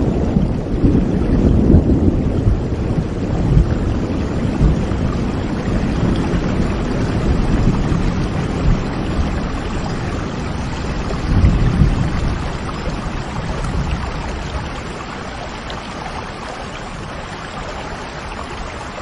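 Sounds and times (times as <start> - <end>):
thunder rumbling: 0.0 - 18.4
heavy rain: 0.0 - 19.0.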